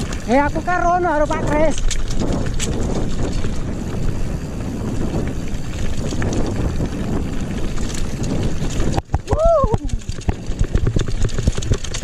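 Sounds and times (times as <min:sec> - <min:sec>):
tyres rolling on dirt trail: 0:00.0 - 0:12.0
wind buffeting microphone: 0:00.0 - 0:12.0.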